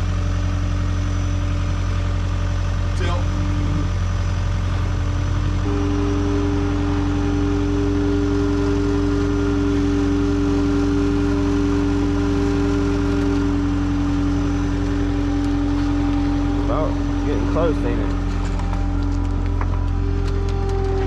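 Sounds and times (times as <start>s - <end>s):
engine idling: 0.0s - 21.0s
steady higher whine: 0.0s - 21.0s.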